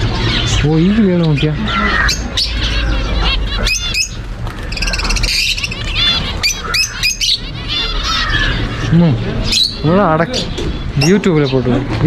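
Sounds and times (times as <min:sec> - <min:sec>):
small birds chirping: 0:00.3 - 0:11.7.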